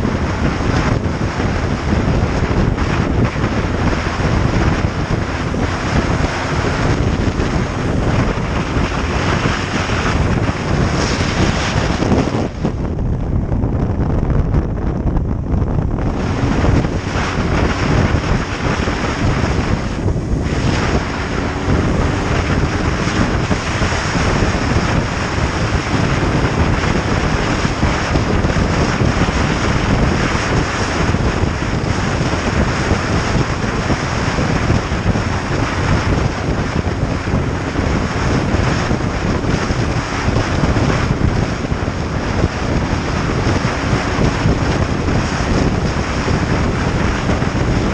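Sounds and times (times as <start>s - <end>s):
motorcycle engine: 0.0s - 47.9s
road noise: 0.0s - 47.9s
wind rushing over microphone: 0.0s - 47.9s.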